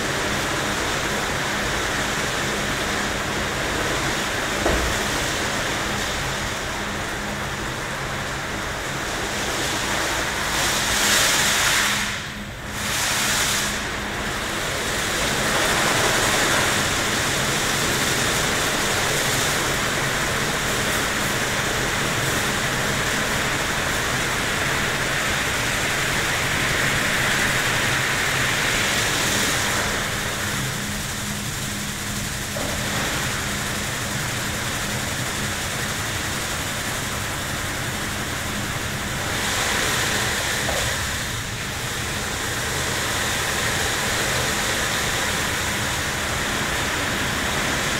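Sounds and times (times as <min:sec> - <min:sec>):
car wash brushes and water rushing: 0:00.0 - 0:47.9
steady low hum: 0:00.0 - 0:47.9.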